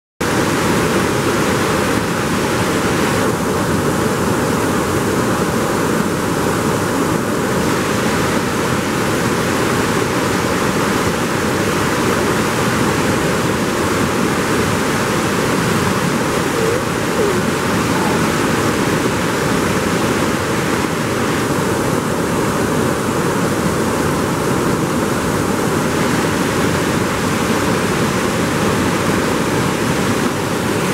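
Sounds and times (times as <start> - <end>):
water rushing over rocks: 0.2 - 30.9.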